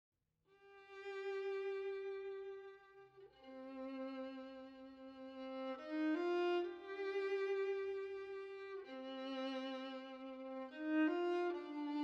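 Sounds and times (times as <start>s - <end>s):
slow sustained violin notes: 0.6s - 12.0s.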